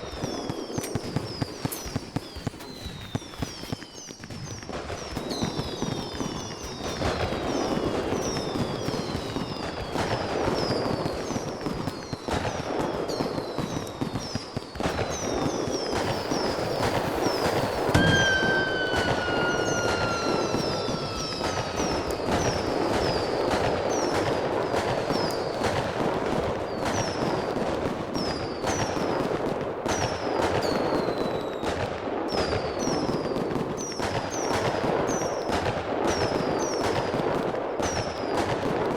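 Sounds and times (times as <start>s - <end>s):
falling firework whistles: 0.0s - 37.2s
fireworks crackling and popping: 0.0s - 38.9s.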